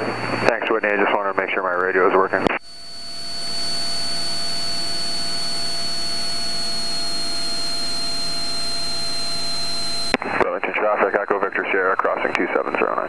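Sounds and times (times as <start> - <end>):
headset electrical hiss: 0.0 - 12.8
thin high whine: 0.0 - 13.0.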